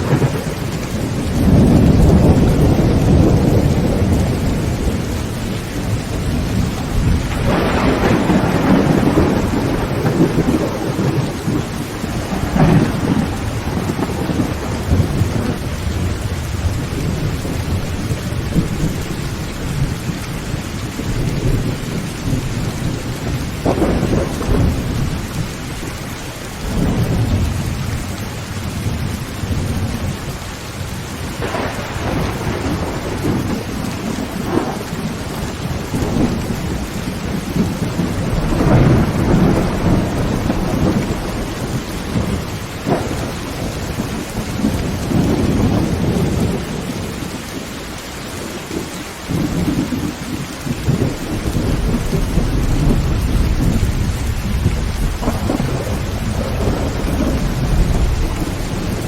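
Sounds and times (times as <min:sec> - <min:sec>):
thunder cracks: 0:00.0 - 0:20.0, 0:20.9 - 0:25.8, 0:31.3 - 0:47.4, 0:49.3 - 0:59.0
heavy rain on a tin roof: 0:00.0 - 0:59.0
thunder rumbling: 0:00.0 - 0:59.0.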